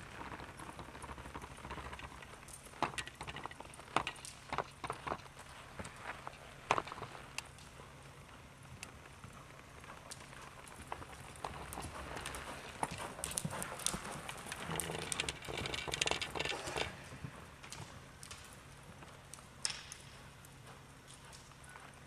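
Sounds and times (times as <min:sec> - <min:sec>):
horse hoofbeats on soft dirt: 0:00.0 - 0:22.0.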